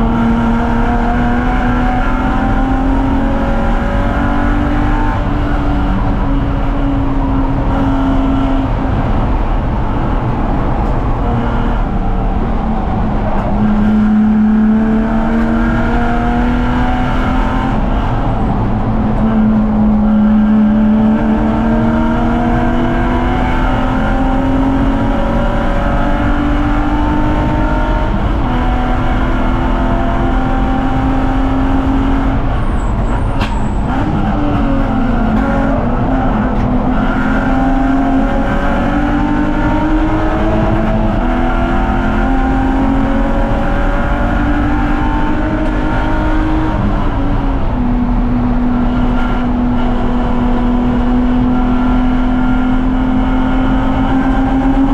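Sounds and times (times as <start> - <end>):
race car engine revving through gears: 0.0 - 54.9.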